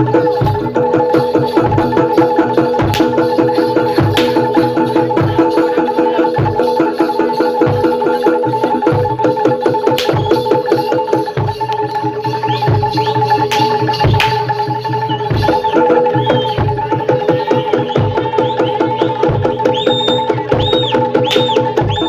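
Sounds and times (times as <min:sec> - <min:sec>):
hand drums and gamelan percussion: 0:00.0 - 0:22.0.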